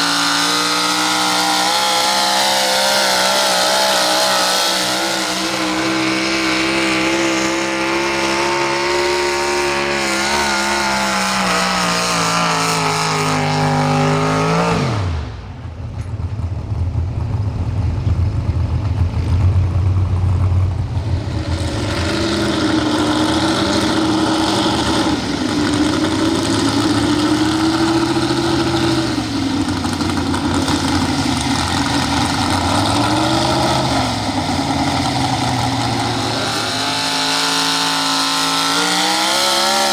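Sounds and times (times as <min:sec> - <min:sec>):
engine running at lower revs: 0:00.0 - 0:39.9
truck engine at high revs: 0:00.0 - 0:39.9.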